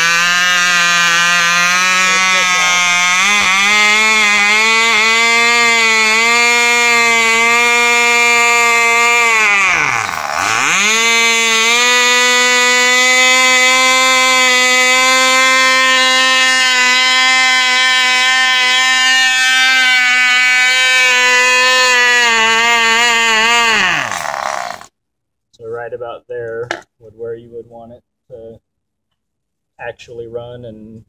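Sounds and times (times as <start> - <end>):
model engine buzzing whine: 0.0 - 24.9.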